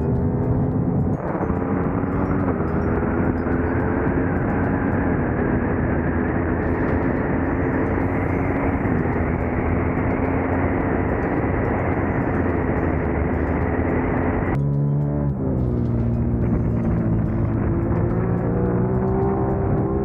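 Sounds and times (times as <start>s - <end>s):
motorcycle engine running hard: 0.0s - 20.0s
music: 0.0s - 20.0s.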